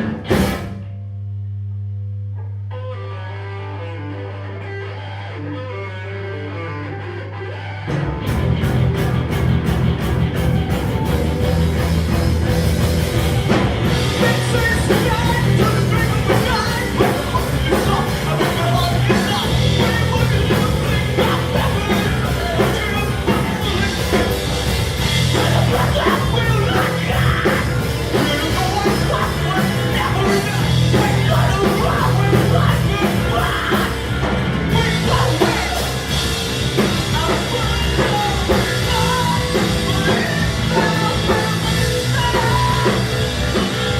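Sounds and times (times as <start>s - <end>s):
drum kit: 0.0s - 1.1s, 7.9s - 43.9s
bass guitar: 0.0s - 43.9s
distorted electric guitars: 0.0s - 43.9s.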